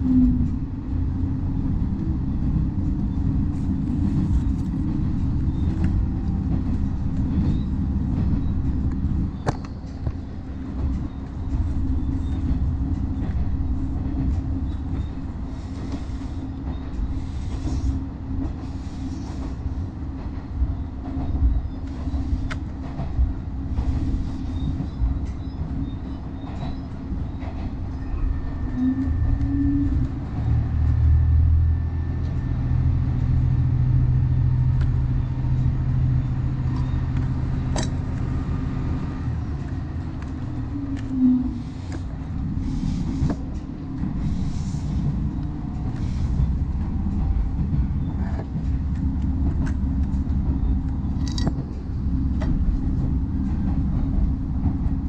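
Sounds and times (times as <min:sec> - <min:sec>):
railcar engine drone: 0:00.0 - 0:55.0
wheels rumbling on rail: 0:00.0 - 0:55.0.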